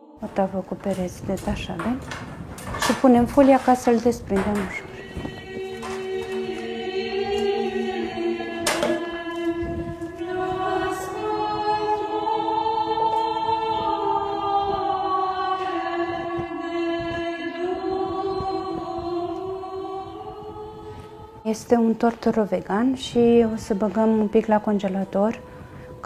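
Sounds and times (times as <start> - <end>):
choir singing unaccompanied: 0.0 - 1.1, 2.1 - 26.0.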